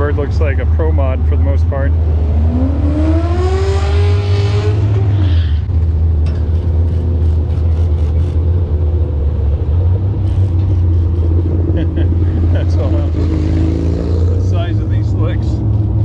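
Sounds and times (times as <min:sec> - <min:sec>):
race car engine revving: 0:01.6 - 0:16.0.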